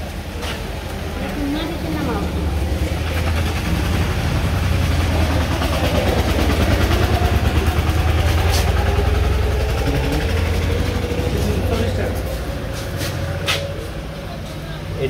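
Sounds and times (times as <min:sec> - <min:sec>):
engine rumbling: 0:00.0 - 0:15.0
faint background voices: 0:00.2 - 0:15.0.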